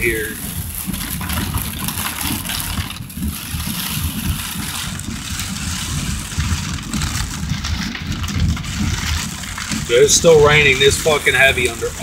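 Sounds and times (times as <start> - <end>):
car driving rumble: 0.0 - 12.0
heavy rain on car roof: 0.0 - 12.0.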